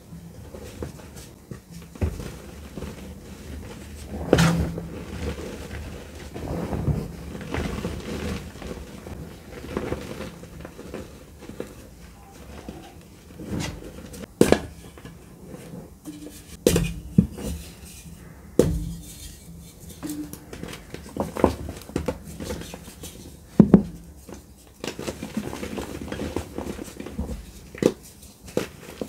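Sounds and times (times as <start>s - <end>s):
chalk crumbling and rustling: 0.3s - 29.0s.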